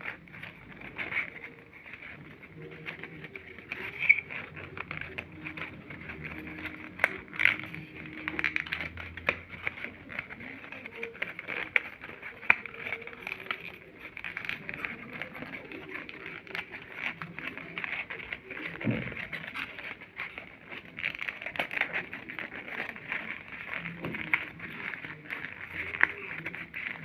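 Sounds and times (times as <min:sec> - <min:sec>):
paper rustling and folding: 0:00.0 - 0:27.0.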